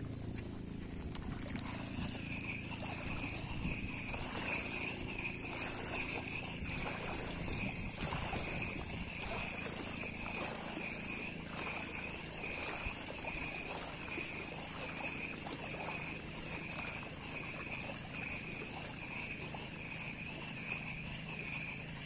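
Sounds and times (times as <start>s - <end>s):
low rumble of wind and water: 0.0s - 22.0s
steady high-pitched pulsing drone: 0.0s - 22.0s.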